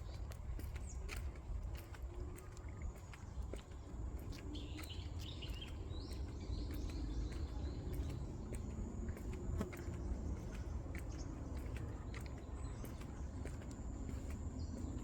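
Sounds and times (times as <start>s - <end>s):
footsteps ticking: 0.0s - 15.0s.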